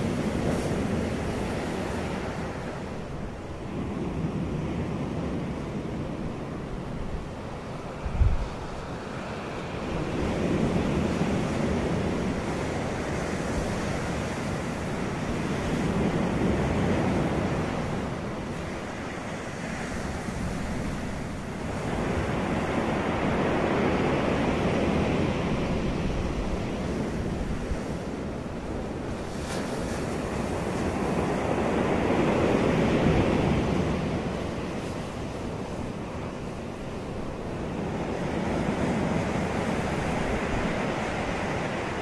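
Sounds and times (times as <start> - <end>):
waves breaking on shore: 0.0 - 42.0.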